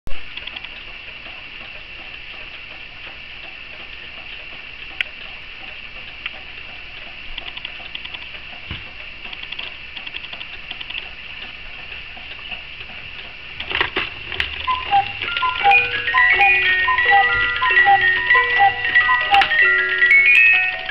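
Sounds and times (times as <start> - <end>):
clock ticking: 0.4 - 20.9.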